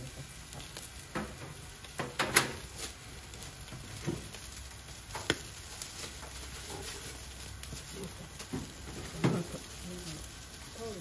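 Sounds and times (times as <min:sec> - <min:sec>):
skewers sizzling on grill: 0:00.0 - 0:11.0.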